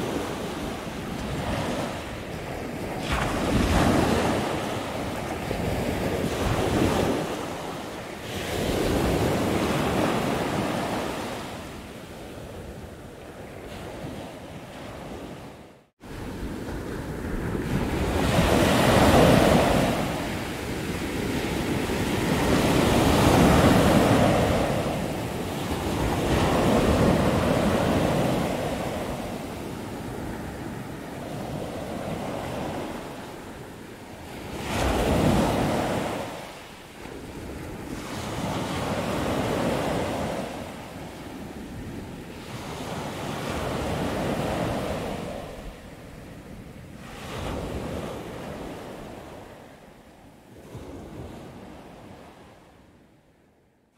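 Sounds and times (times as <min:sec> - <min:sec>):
wind noise on microphone: 0:00.0 - 0:49.8.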